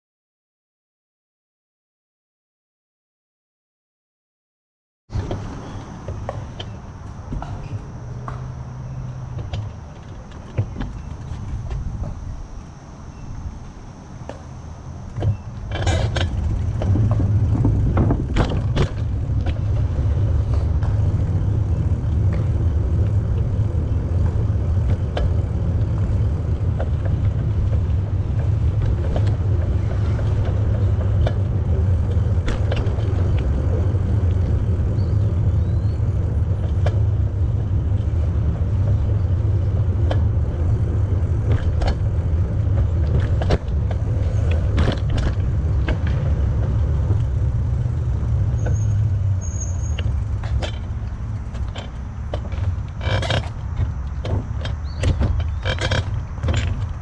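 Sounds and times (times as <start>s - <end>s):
wind rumbling on microphone: 5.1s - 57.0s
bicycle clicks and rattles: 5.2s - 57.0s.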